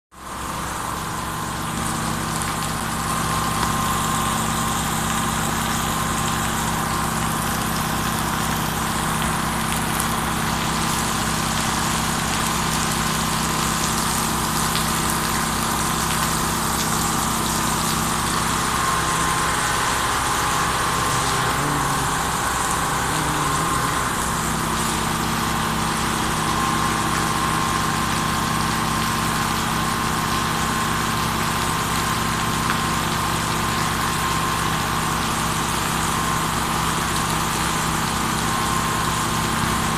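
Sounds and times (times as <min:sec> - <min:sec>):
heavy rain pouring on pavement: 0:00.2 - 0:39.9
mechanical hum: 0:00.2 - 0:39.9.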